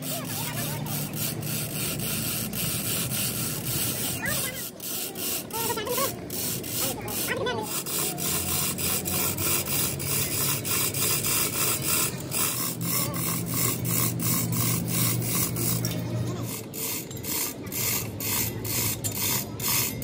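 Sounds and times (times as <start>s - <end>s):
metal being filed by hand: 0.0s - 20.0s.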